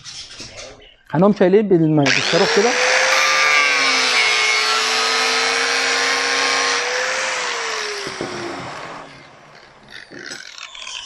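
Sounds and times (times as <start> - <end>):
angle grinder whining: 2.0 - 11.0
grinder spinning down: 2.0 - 11.0.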